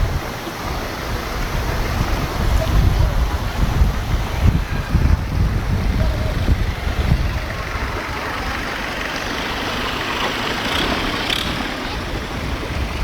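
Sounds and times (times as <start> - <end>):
boat engine running: 0.0 - 13.0
wind gusting on microphone: 0.0 - 13.0.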